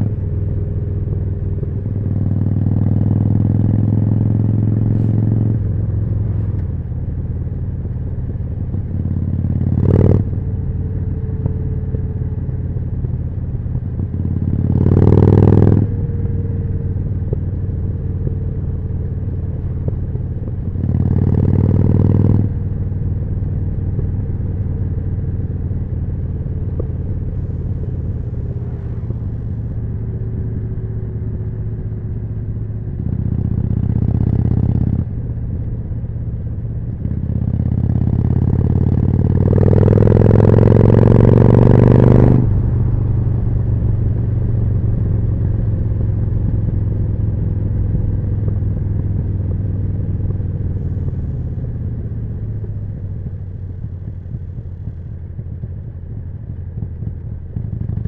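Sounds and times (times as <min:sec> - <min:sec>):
motorcycle engine revving: 0:00.0 - 0:06.6, 0:07.3 - 0:58.0.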